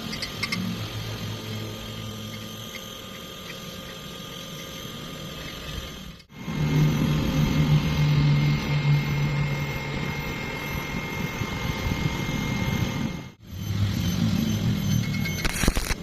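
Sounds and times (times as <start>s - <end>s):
welding arc hissing: 0.0s - 13.1s, 15.4s - 16.0s
welding arc buzzing: 0.0s - 16.0s.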